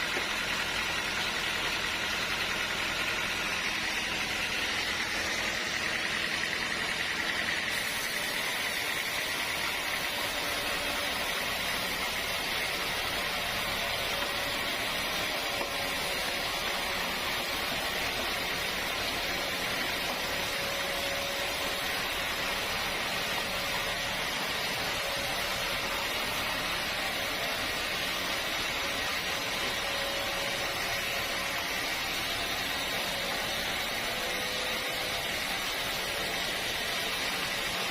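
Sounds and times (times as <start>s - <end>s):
sawmill machinery hiss and hum: 0.0s - 37.9s.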